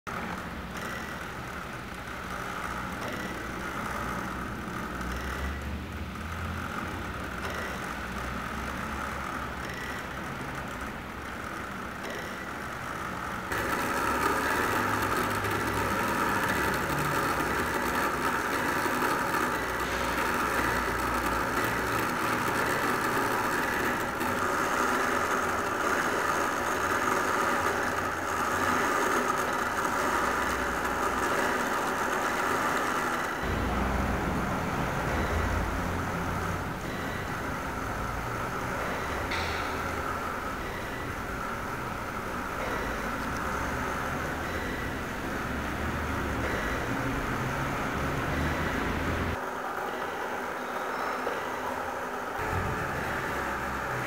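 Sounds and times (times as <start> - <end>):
clockwork wheel mechanism running: 0.1 - 54.0.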